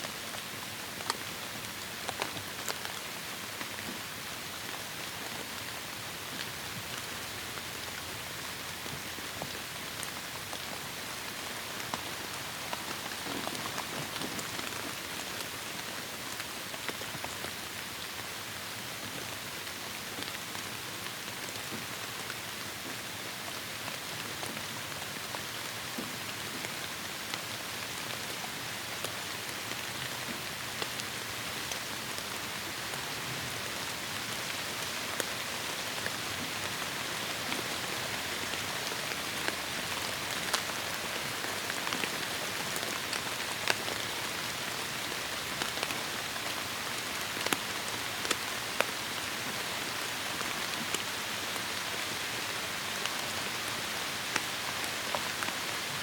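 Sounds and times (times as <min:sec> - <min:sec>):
heavy rain on foliage: 0:00.0 - 0:56.0.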